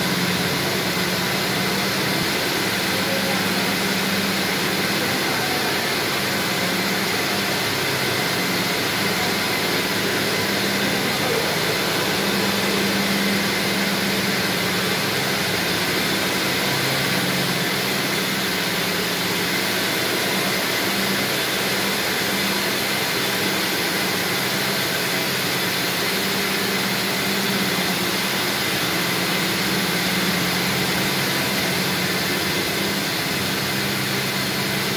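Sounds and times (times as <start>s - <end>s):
textile machines whirring: 0.0s - 34.9s.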